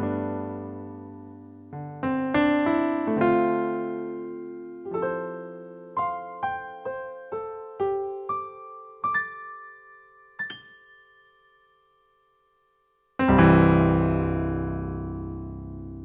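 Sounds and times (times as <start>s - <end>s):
piano notes and chords: 0.0s - 16.0s.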